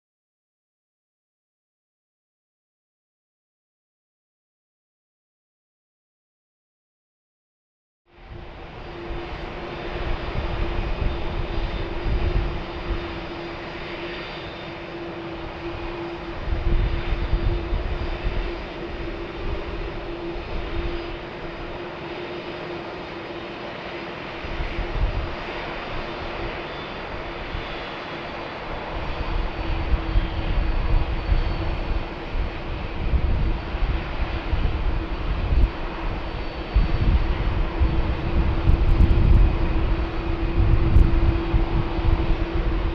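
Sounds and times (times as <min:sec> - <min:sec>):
jet engines roaring: 0:08.1 - 0:42.9.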